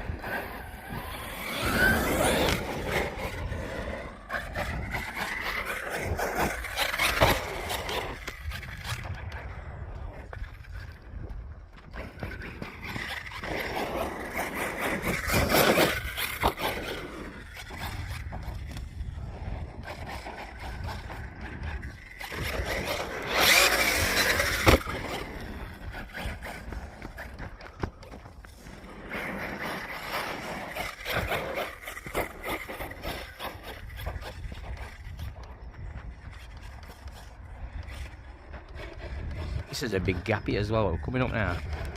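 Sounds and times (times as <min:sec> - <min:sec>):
electric motor whining: 0:00.0 - 0:10.4, 0:12.0 - 0:40.3
tyres scrabbling on dirt: 0:00.0 - 0:41.9.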